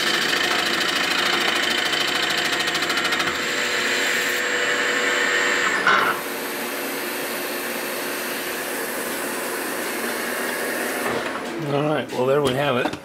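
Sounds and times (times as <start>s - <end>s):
milling machine cutting metal: 0.0s - 11.6s.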